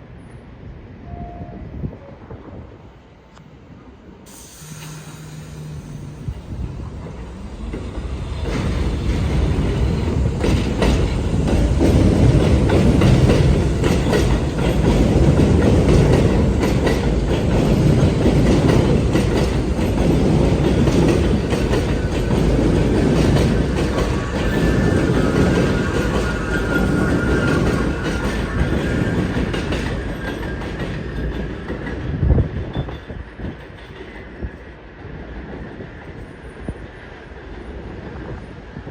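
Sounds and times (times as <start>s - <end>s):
subway train rumbling past: 0.0s - 38.9s.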